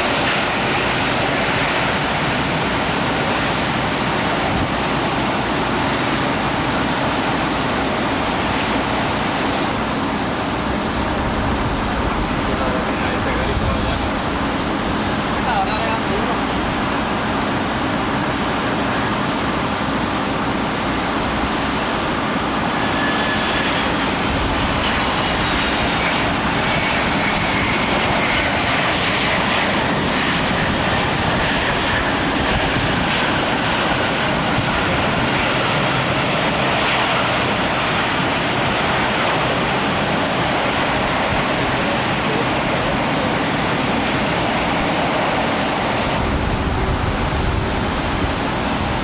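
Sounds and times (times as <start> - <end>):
jet engines whining: 0.0 - 49.0.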